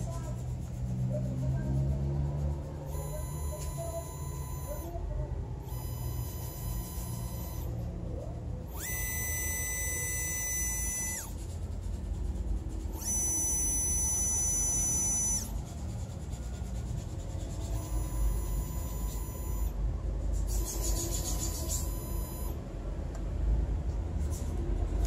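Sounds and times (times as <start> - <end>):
stepper motor whining: 0.0 - 22.6.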